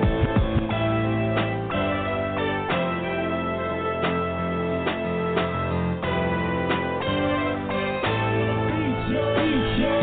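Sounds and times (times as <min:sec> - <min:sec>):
pop background music: 0:00.0 - 0:10.0.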